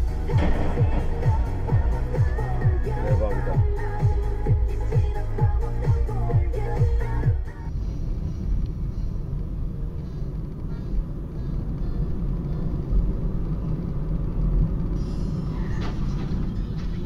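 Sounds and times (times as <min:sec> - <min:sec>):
car engine rumbling: 0:00.0 - 0:17.0
tyres on road: 0:00.0 - 0:17.0.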